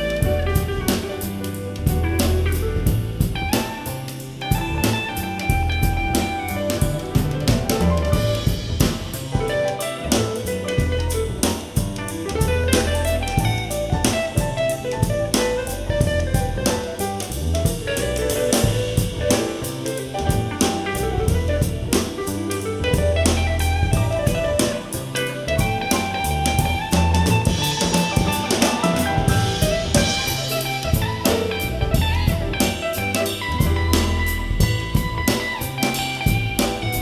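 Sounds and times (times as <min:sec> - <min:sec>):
instrumental soul-jazz music: 0:00.0 - 0:37.0.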